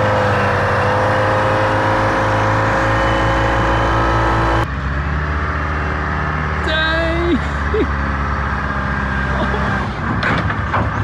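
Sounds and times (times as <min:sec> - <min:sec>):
diesel forklift engine running: 0:00.0 - 0:11.0.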